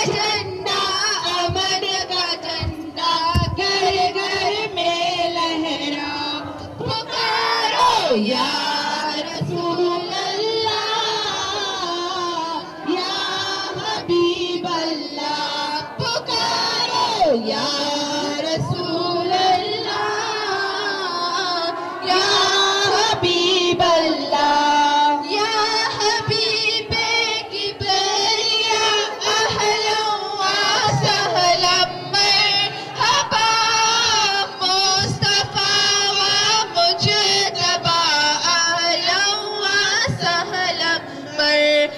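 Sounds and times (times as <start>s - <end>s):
women singing devotional song: 0.0s - 41.9s.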